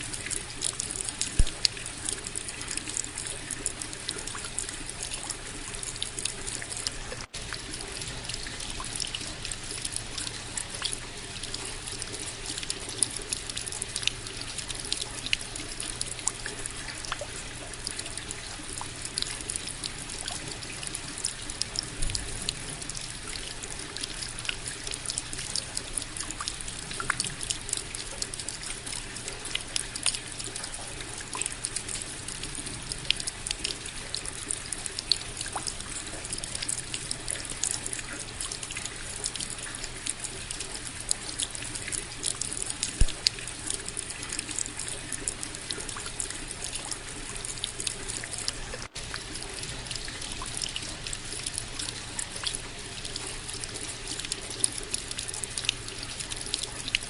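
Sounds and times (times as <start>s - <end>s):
raindrops clicking close by: 0.0s - 57.0s
steady rain falling: 0.0s - 57.0s.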